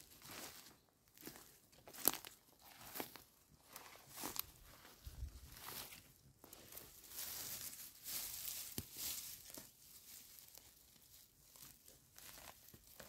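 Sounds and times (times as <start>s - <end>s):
rustling grass and dry leaves: 0.0s - 13.0s.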